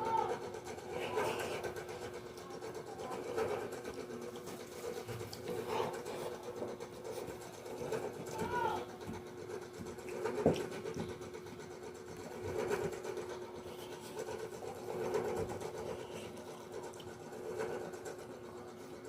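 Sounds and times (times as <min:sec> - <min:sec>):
steady mechanical hum: 0:00.0 - 0:19.0
soft chewing: 0:00.2 - 0:19.0.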